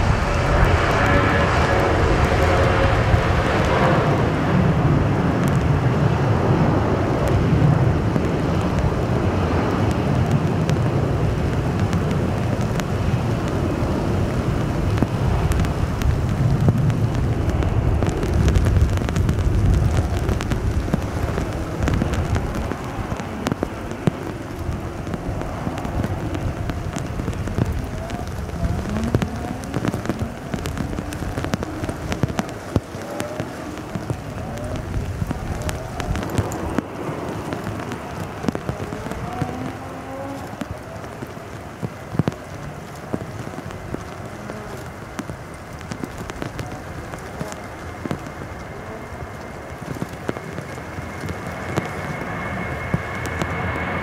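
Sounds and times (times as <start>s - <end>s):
jet engines rumbling: 0.0s - 54.0s
rain falling: 0.0s - 54.0s.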